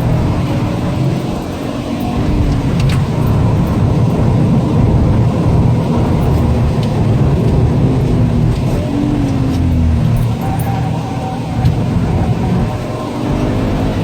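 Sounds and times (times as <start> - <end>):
car engine running loud: 0.0 - 14.0
road noise: 0.0 - 14.0.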